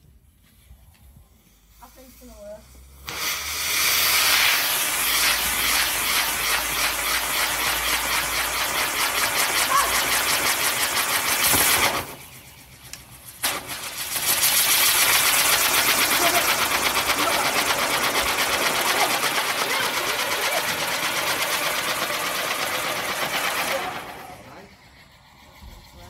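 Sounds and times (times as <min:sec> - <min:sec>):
firework fuses hissing: 0:00.6 - 0:26.0.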